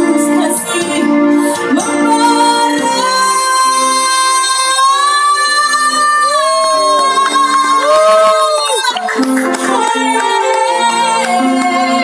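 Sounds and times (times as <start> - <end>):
backing music: 0.0 - 12.0
woman singing into a microphone: 0.0 - 12.0.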